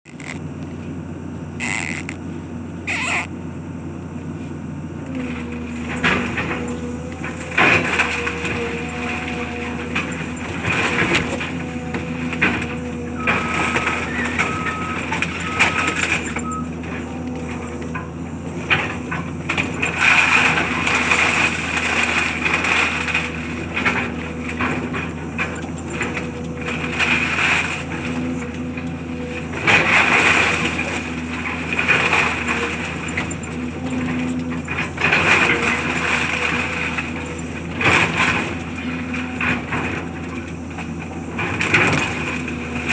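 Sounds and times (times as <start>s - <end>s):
debris crunching and scraping: 0.0s - 3.4s, 4.4s - 42.9s
demolition machinery running: 0.1s - 42.9s.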